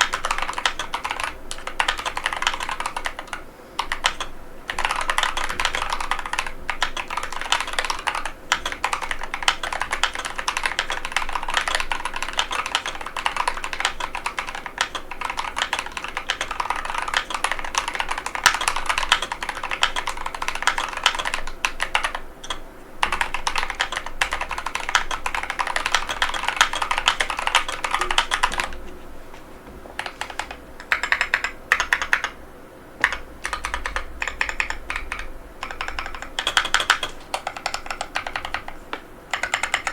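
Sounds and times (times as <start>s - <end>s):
mechanical keyboard typing: 0.0s - 28.8s, 30.0s - 32.4s, 33.0s - 39.9s.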